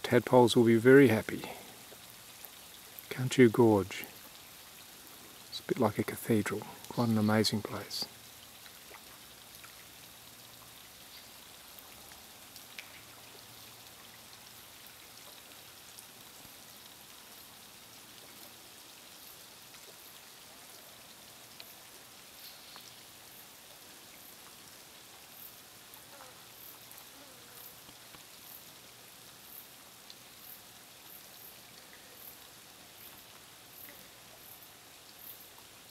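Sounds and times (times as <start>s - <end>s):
water dripping off rock: 1.3s - 26.0s, 26.7s - 35.9s.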